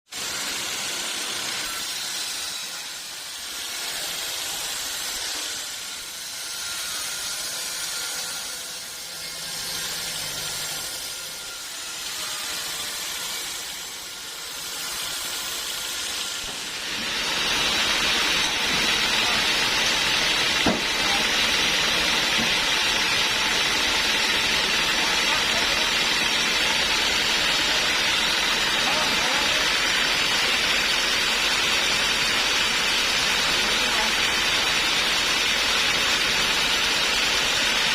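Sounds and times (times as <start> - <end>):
band sawmill cutting log: 0.1 - 37.9.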